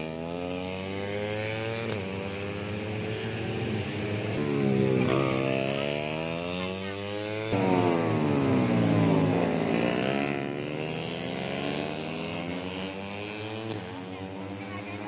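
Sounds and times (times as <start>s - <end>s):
motorcycles passing at high revs: 0.0s - 15.0s.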